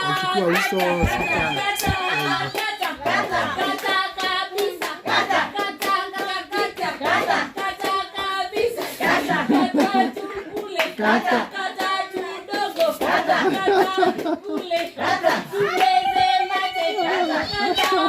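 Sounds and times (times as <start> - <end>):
group of people singing: 0.0 - 18.0
hands clapping in rhythm: 0.0 - 18.0.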